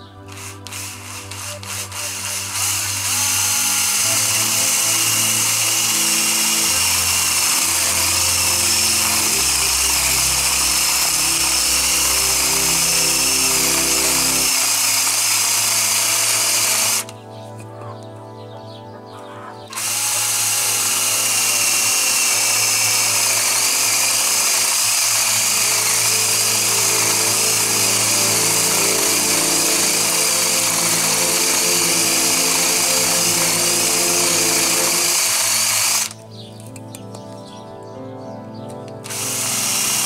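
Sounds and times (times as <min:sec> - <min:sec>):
power tool cutting wood: 0:00.0 - 0:17.2, 0:19.7 - 0:36.2, 0:38.9 - 0:40.0.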